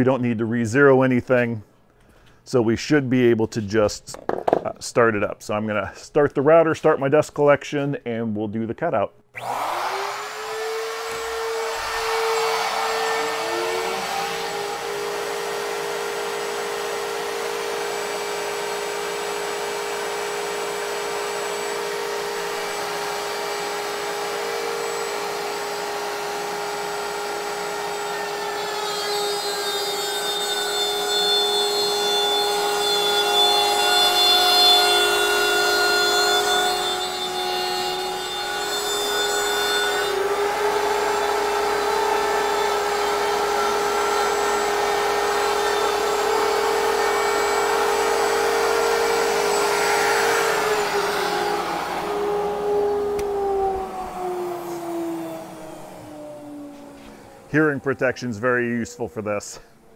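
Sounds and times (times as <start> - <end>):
router bit cutting plywood: 9.4 - 58.4
router spindle whining: 9.4 - 59.0
dust collector whine: 9.4 - 59.9.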